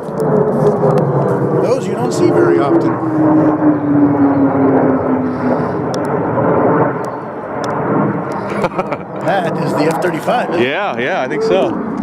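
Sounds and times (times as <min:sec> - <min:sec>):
jet engine noise overhead: 0:00.0 - 0:12.0.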